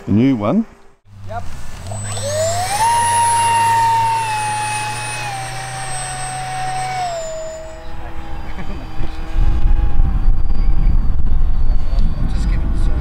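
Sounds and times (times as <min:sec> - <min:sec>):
electric ducted fan whine: 0:00.7 - 0:13.0.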